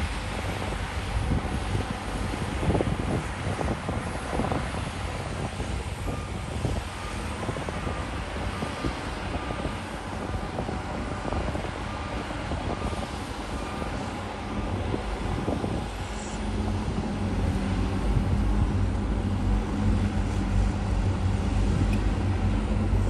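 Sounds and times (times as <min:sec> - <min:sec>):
diesel engine of heavy machinery: 0:00.0 - 0:23.0.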